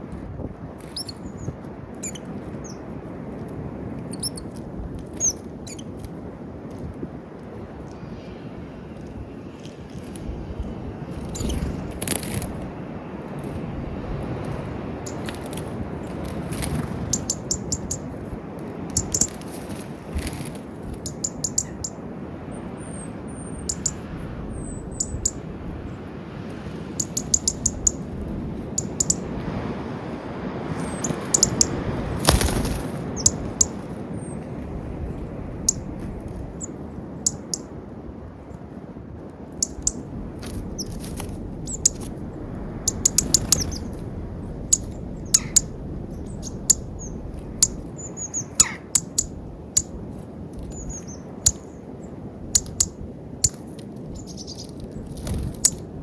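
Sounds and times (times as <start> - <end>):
rustle of wings: 0.0 - 56.0
small birds chirping: 0.8 - 2.9, 4.1 - 6.1, 7.8 - 18.2, 18.9 - 26.1, 26.8 - 29.4, 30.6 - 37.7, 39.5 - 50.0, 50.6 - 55.8
low background rumble: 6.6 - 53.6.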